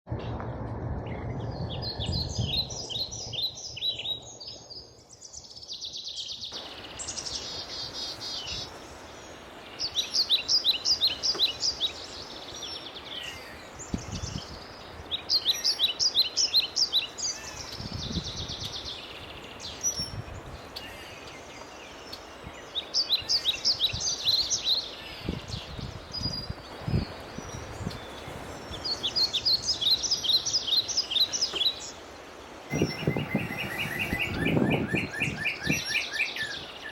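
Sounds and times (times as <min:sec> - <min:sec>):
outdoor background noise: 0:00.1 - 0:36.9
songbirds trilling: 0:01.1 - 0:36.9.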